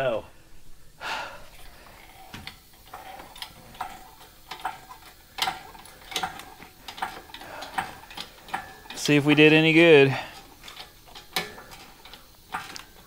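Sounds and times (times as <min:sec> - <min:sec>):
metallic clicks and ticks: 0:01.6 - 0:13.0.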